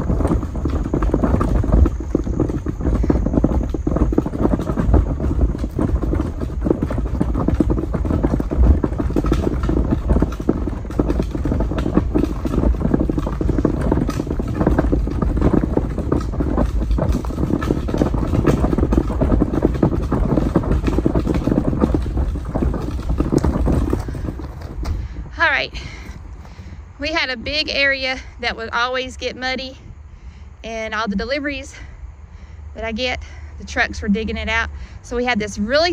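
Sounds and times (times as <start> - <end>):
footsteps: 0.0 - 29.8
garbage can wheels rattling on gravel: 0.0 - 29.8.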